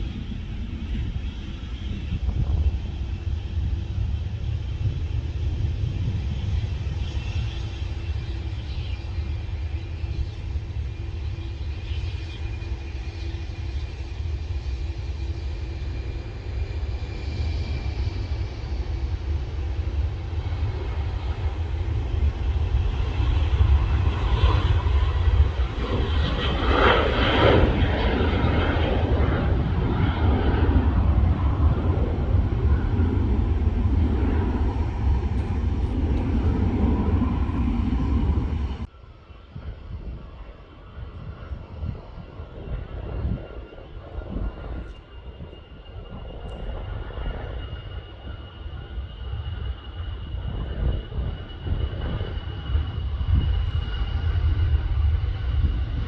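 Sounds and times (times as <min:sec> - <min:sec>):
distant jet engine whine: 0:00.0 - 0:56.0
jet engines rumbling: 0:00.0 - 0:56.0.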